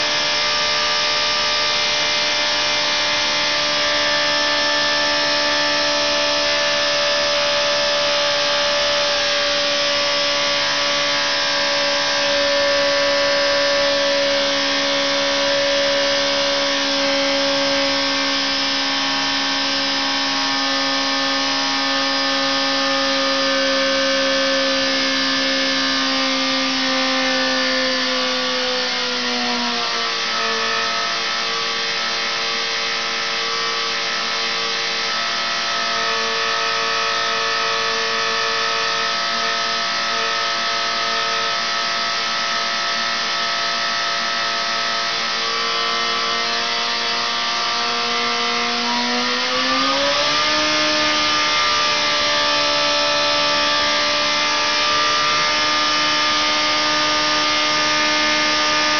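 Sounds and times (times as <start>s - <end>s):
engine running with whine: 0.0s - 58.9s.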